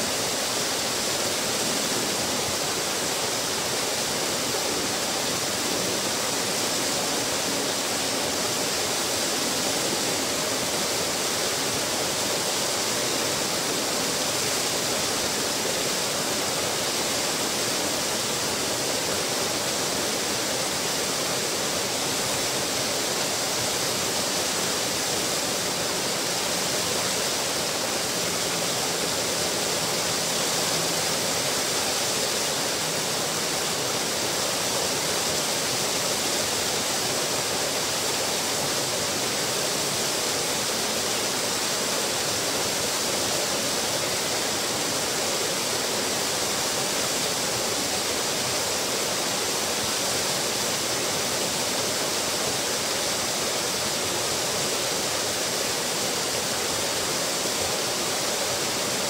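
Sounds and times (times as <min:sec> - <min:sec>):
waterfall splashing: 0:00.0 - 0:59.0.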